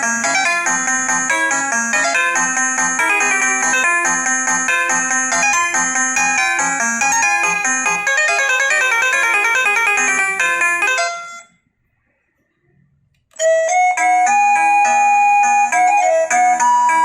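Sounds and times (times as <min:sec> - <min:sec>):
electronic doorbell chime melody: 0:00.0 - 0:11.5, 0:13.4 - 0:17.0.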